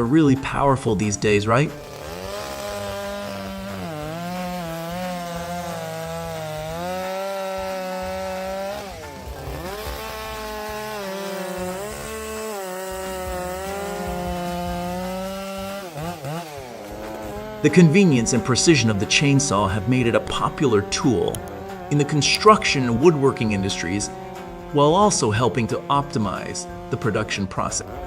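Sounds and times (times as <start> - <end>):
chainsaw cutting log: 0.0 - 28.0.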